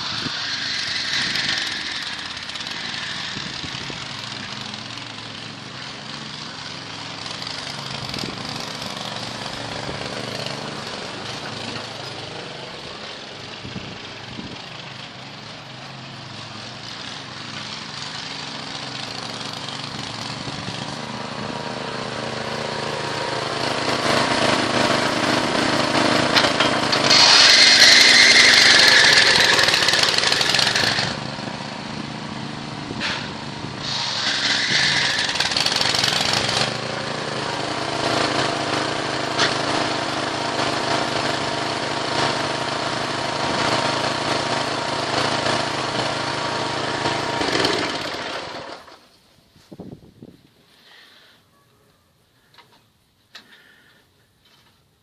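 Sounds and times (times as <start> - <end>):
small engine revving: 0.0 - 49.0.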